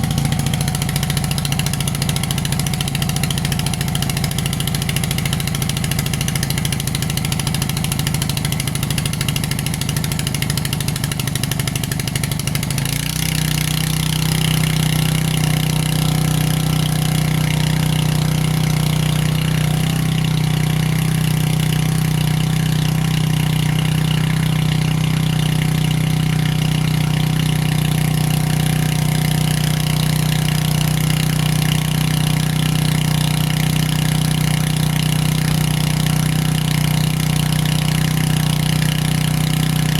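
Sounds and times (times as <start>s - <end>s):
small water pump engine running: 0.0s - 39.9s.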